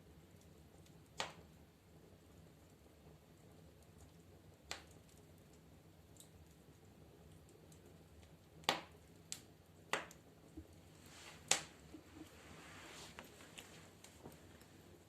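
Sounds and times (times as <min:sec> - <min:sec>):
soft hiss of burning: 0:00.0 - 0:15.0
wood fire crackling pops: 0:00.0 - 0:15.0.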